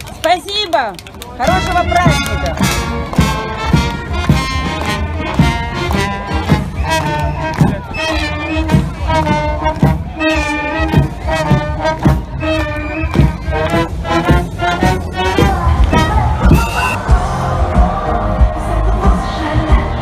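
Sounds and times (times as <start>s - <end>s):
brass band playing: 1.4s - 19.5s.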